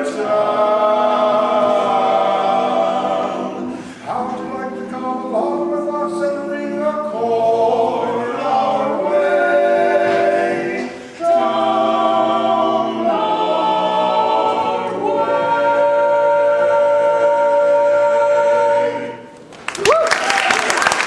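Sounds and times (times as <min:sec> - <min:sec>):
male quartet singing a cappella: 0:00.0 - 0:19.4.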